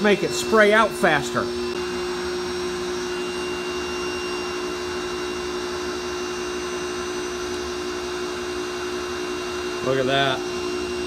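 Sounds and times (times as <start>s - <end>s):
pump humming: 0.0s - 11.0s.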